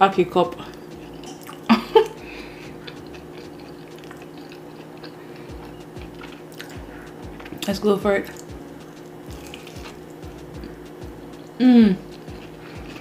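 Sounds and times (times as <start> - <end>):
faint chewing: 0.5 - 10.8, 11.4 - 13.0.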